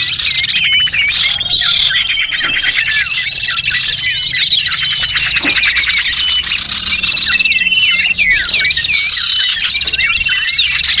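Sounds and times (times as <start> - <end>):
small birds chirping and trilling: 0.0 - 11.0
steady high-pitched tones: 0.0 - 11.0.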